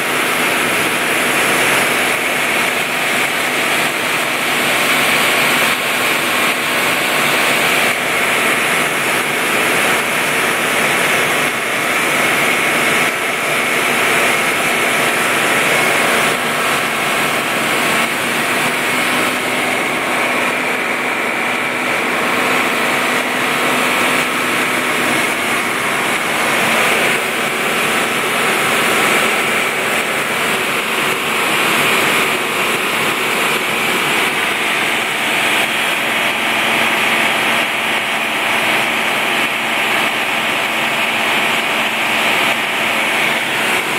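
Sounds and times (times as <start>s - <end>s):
farm machinery engine drone: 0.0s - 43.9s
steady high whine: 0.0s - 43.9s.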